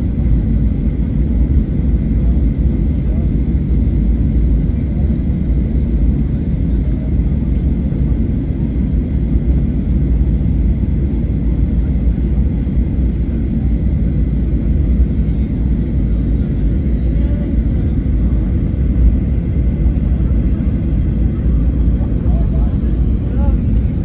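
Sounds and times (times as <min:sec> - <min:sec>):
jet engine low rumble: 0:00.0 - 0:24.0.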